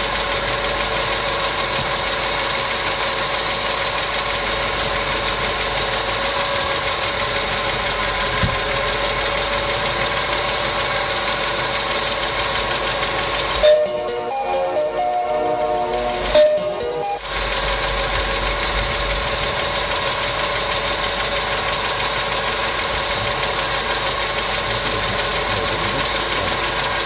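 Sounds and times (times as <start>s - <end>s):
car engine idling with ticking: 0.0s - 27.0s.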